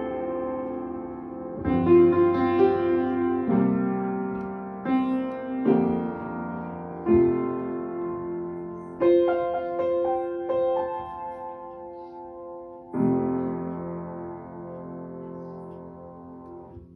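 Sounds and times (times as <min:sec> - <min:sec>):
solo piano playing: 0:00.0 - 0:16.9.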